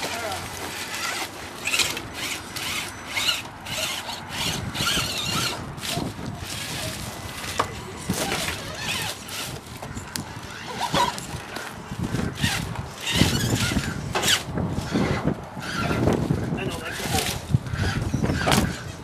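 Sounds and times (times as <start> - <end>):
toy truck motors whining: 0.0 - 19.0.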